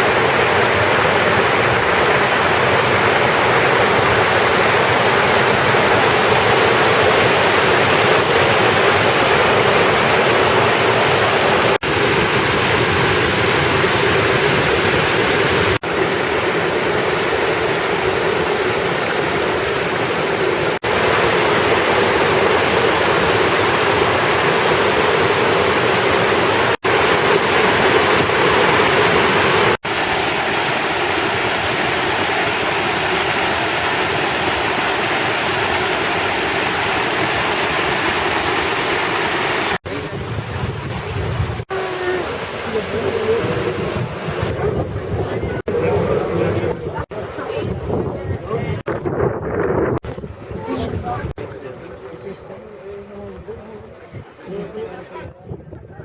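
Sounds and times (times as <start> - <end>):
waterfall rushing: 0.0 - 47.7.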